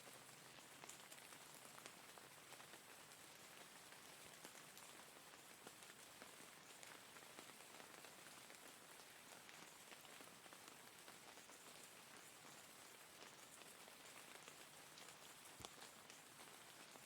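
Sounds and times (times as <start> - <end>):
faint rain hiss: 0.0 - 17.0.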